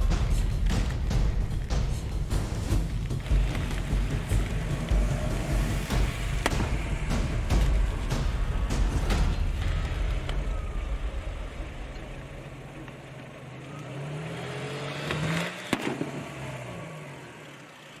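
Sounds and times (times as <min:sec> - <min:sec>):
sharp crack: 0:00.0 - 0:14.1, 0:14.8 - 0:16.3
car engine accelerating: 0:00.0 - 0:18.0.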